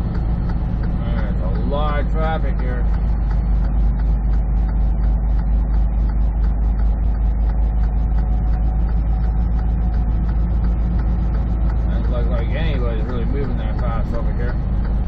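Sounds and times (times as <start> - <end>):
diesel truck engine droning: 0.0 - 15.0
hazard flashers ticking: 0.0 - 15.0.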